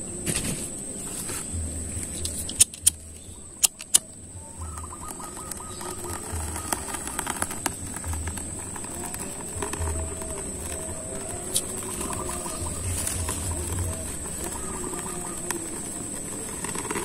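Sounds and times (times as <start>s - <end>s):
tinder fire crackling: 1.5s - 17.0s.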